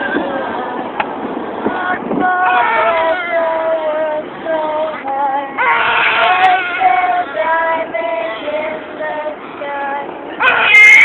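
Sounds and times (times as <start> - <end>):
high-pitched singing voice: 1.7 - 10.8.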